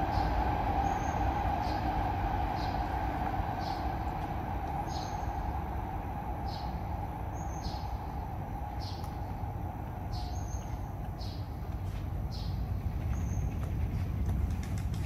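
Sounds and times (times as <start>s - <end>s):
bird chirping: 0.0s - 5.5s, 6.4s - 14.7s
low background rumble: 0.0s - 15.0s.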